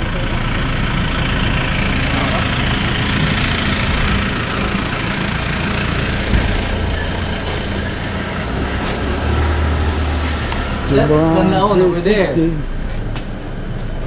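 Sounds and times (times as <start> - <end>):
low hum: 0.0 - 14.0
vehicle engine and road noise: 0.0 - 14.0.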